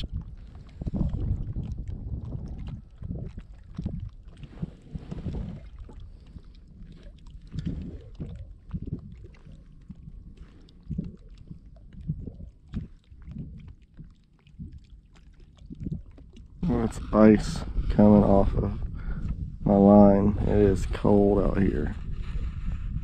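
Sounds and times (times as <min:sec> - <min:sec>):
water sloshing against kayak hull: 0:00.0 - 0:23.0.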